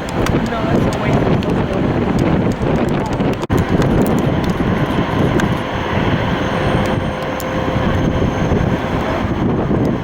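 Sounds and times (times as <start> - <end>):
jet airliner engines rumbling: 0.0 - 10.0.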